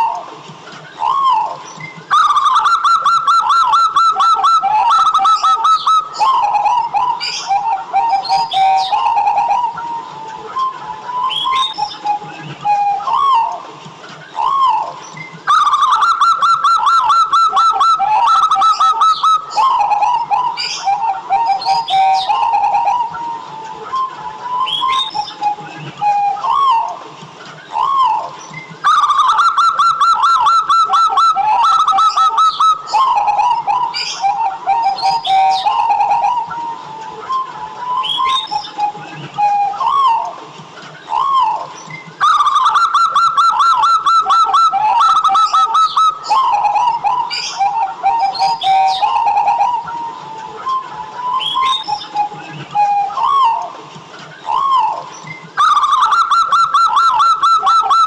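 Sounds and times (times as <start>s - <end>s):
dove trilled cooing: 0.0s - 27.0s, 27.6s - 40.4s, 41.0s - 58.0s
higher bird chirps: 0.8s - 27.0s, 27.6s - 40.4s, 41.0s - 58.0s.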